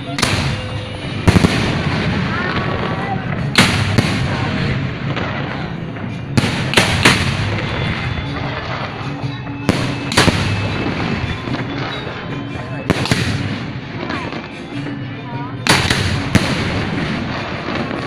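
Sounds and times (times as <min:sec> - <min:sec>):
fireworks sharp bangs: 0:00.0 - 0:15.0, 0:15.6 - 0:18.0
fireworks crackle and rumble: 0:00.0 - 0:18.0.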